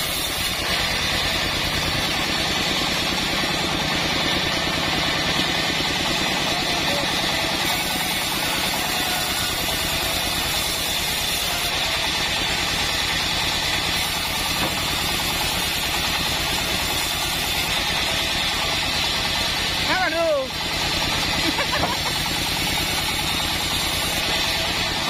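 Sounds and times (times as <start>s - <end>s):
bandsaw blade whirring: 0.0s - 25.0s
bandsaw mill engine drone: 0.0s - 25.0s.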